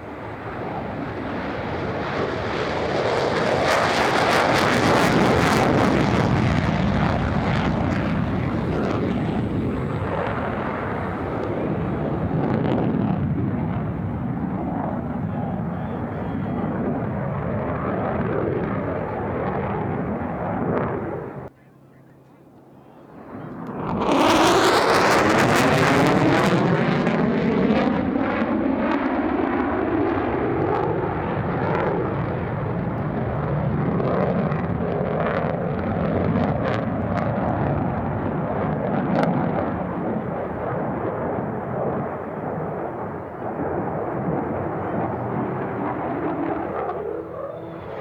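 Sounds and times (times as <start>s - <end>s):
jet fighter roaring past: 0.0s - 48.0s.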